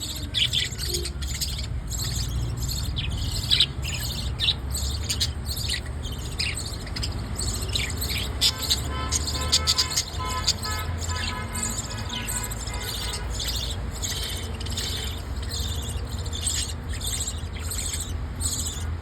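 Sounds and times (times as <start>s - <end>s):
bird chicks chirping: 0.0s - 19.0s.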